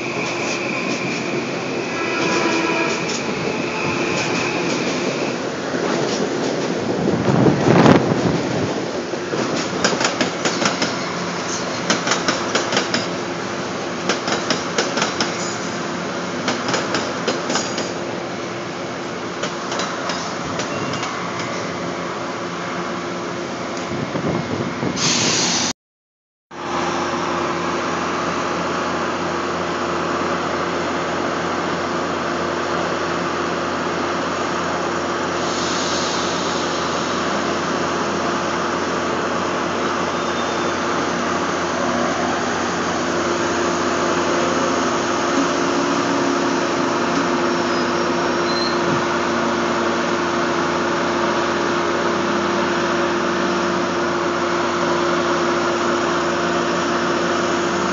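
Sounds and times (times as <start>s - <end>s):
diesel locomotive engine humming: 0.0s - 25.7s, 26.6s - 57.9s
rail cars rumbling past: 0.0s - 25.7s, 26.5s - 57.9s.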